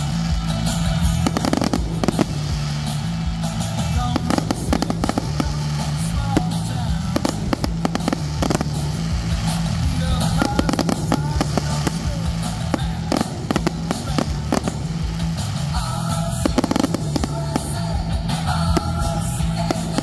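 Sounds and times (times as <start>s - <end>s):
fireworks bangs and crackling: 0.0s - 20.0s
loud music with heavy bass: 0.0s - 20.0s.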